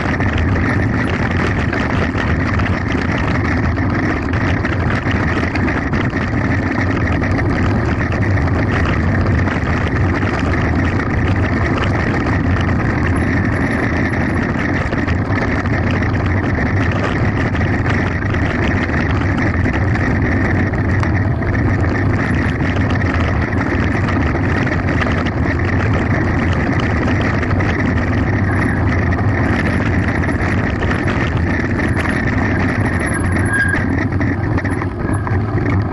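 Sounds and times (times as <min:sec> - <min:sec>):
bike tyres rattling on gravel: 0:00.0 - 0:35.9
wind on microphone: 0:00.0 - 0:35.9.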